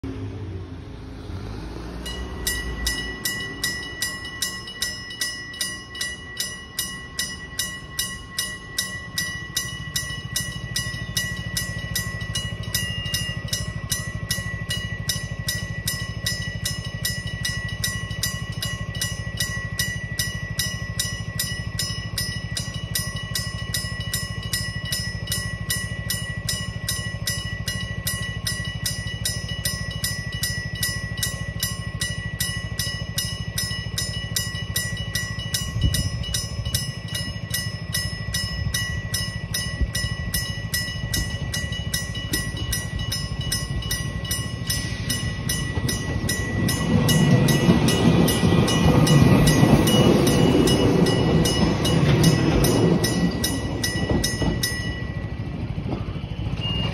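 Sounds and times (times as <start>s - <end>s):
level crossing bell ringing: 1.6s - 56.9s.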